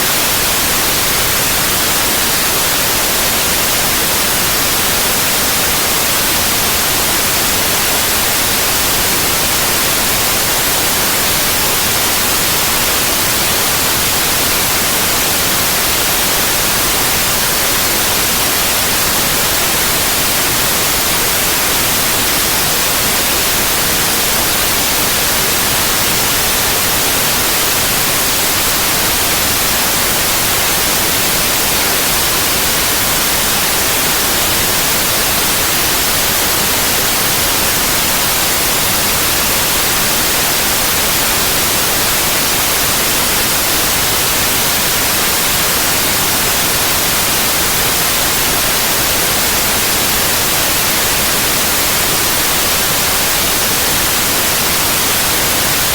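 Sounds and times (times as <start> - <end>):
white noise hiss: 0.0 - 55.9.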